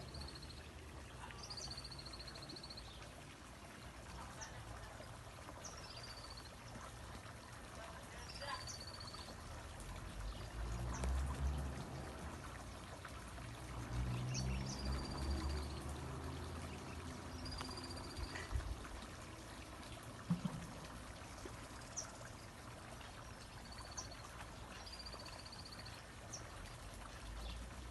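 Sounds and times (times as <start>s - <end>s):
water running: 0.0s - 27.9s.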